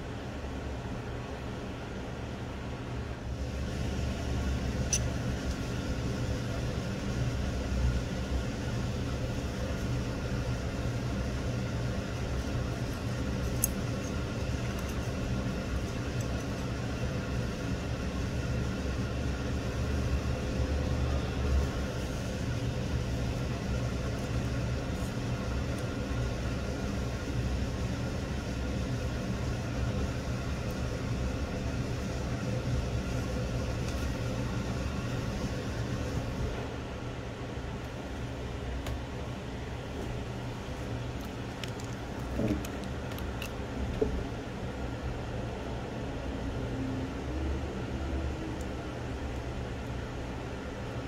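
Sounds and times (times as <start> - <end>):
low rumbling machinery hum: 0.0 - 51.0.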